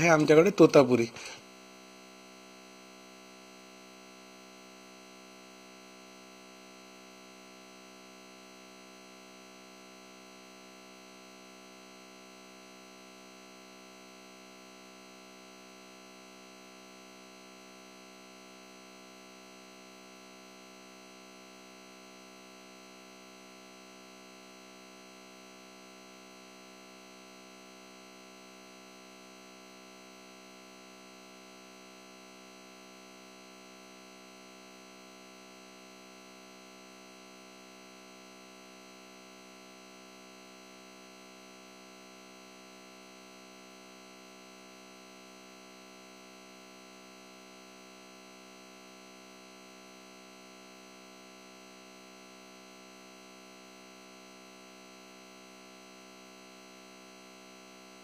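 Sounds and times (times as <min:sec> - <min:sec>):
electronic hum and hiss: 0:00.0 - 0:58.0.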